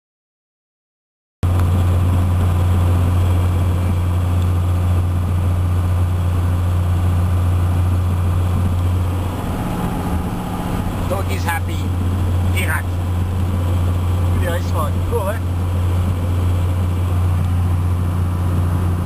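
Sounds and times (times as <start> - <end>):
diesel engine drone in cab: 1.4 - 19.0.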